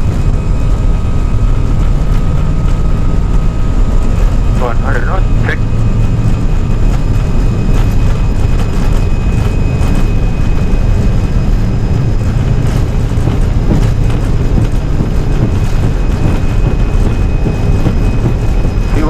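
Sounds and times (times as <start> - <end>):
jet engines at takeoff thrust: 0.0 - 19.0
thin high whine: 0.0 - 19.0
wheels rolling on runway: 0.0 - 19.0.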